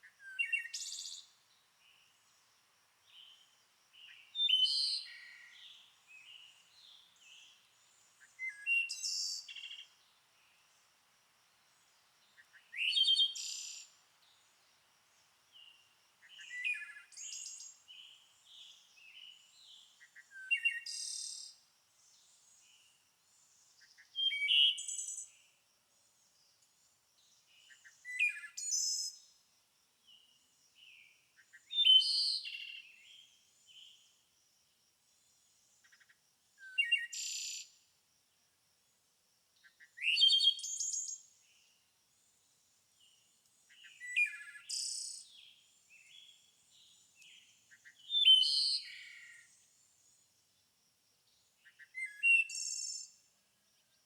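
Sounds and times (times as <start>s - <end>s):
songbird chirps and trills: 0.0s - 10.9s, 11.7s - 34.3s, 39.6s - 54.0s.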